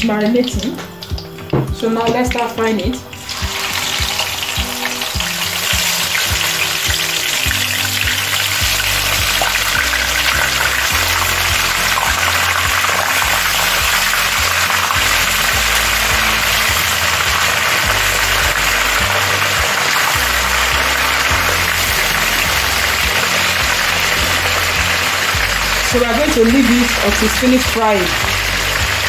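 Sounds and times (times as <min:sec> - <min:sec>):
fish sizzling in hot oil: 0:00.2 - 0:29.0.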